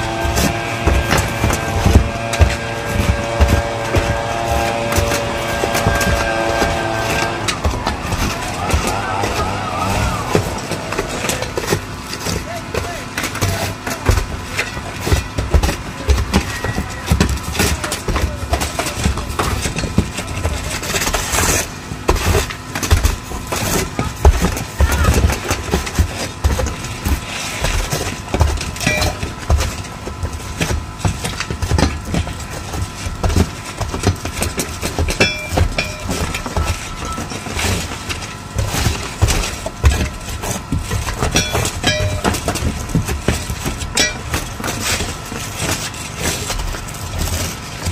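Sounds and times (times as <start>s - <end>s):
constant low rumble: 0.0s - 47.9s
shingles knocking and clattering: 0.0s - 47.9s
workers' voices: 0.0s - 47.9s.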